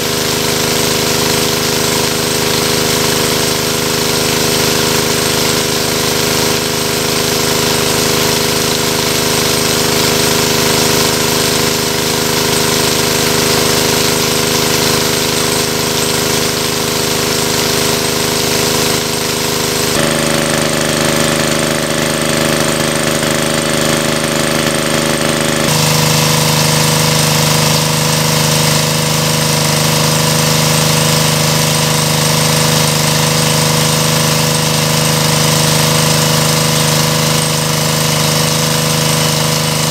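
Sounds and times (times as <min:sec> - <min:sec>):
water gushing and splashing: 0:00.0 - 0:39.9
water pump engine running: 0:00.0 - 0:39.9.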